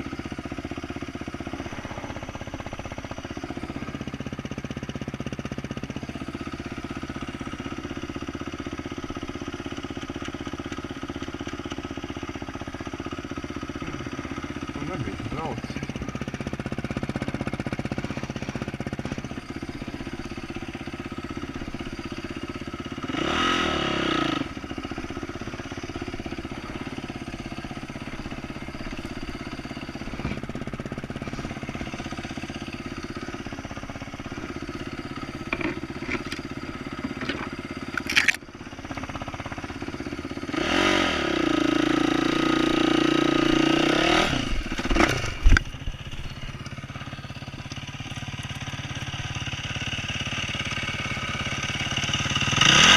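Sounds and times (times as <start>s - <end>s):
dirt bike engine revving: 0.0s - 4.8s, 13.6s - 47.4s, 48.0s - 52.9s.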